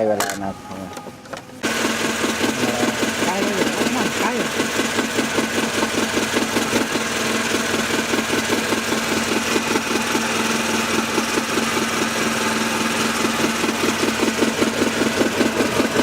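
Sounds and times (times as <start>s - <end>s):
boat engine running: 1.6s - 16.0s.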